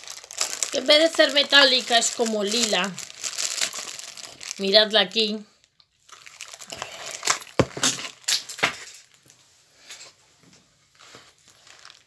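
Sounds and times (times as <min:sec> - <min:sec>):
plastic packaging rustling: 0:00.0 - 0:05.4, 0:06.0 - 0:10.2, 0:10.9 - 0:12.0.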